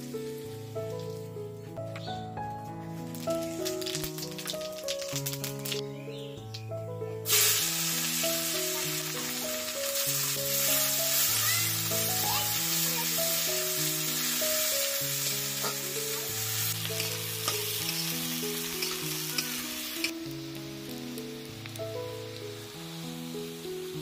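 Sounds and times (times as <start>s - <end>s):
onions sizzling in hot oil: 0.0s - 1.4s, 2.9s - 5.8s, 7.2s - 24.0s
background music: 0.0s - 24.0s.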